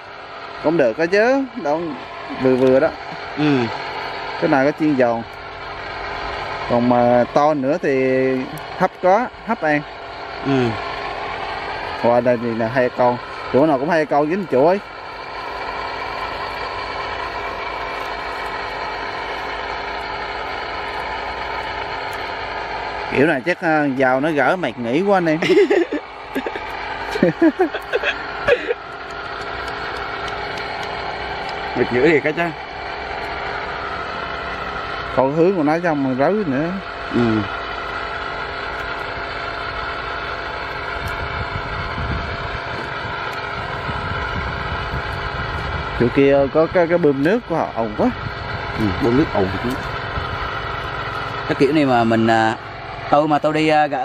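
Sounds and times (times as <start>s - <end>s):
engine-driven water pump droning: 0.0s - 54.0s.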